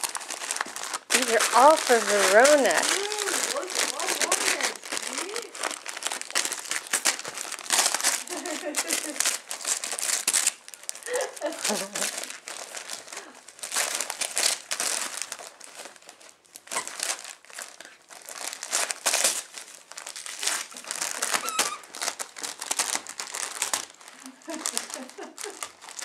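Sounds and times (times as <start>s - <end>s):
dog tearing wrapping paper: 0.0s - 26.0s.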